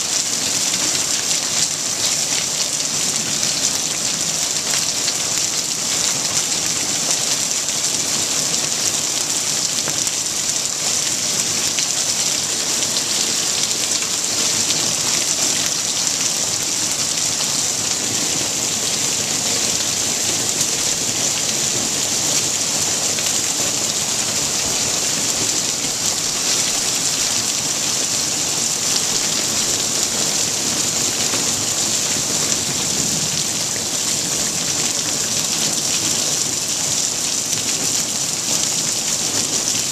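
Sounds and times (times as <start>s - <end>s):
hail and rain on concrete: 0.0s - 39.9s.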